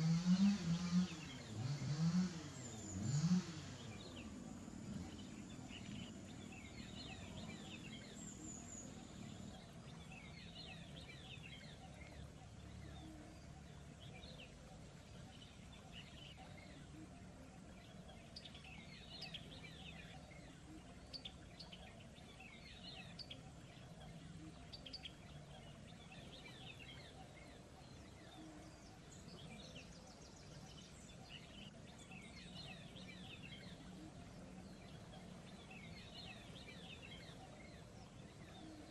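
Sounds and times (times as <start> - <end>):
faint outdoor ambience: 0.0 - 38.9
small birds chirping: 0.0 - 38.9.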